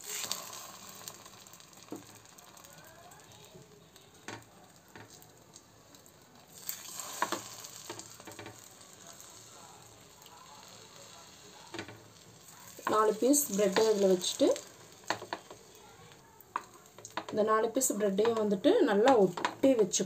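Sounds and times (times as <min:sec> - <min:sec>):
bread sizzling in pan: 0:00.0 - 0:20.0.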